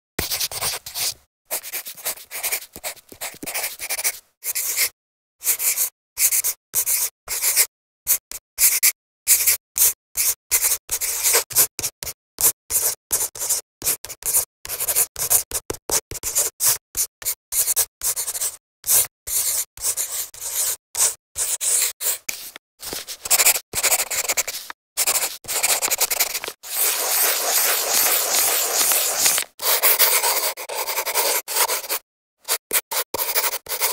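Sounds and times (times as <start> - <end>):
pencil scratching on paper: 0.2 - 33.9.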